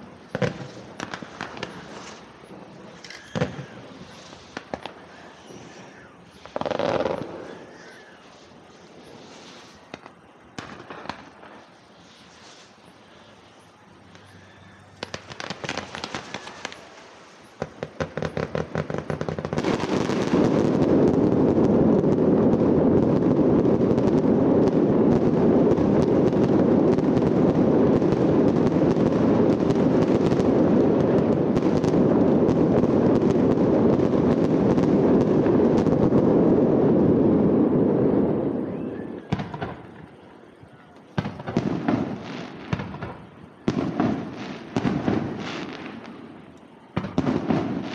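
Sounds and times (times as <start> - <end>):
fireworks crackling and bursting: 0.0 - 47.9.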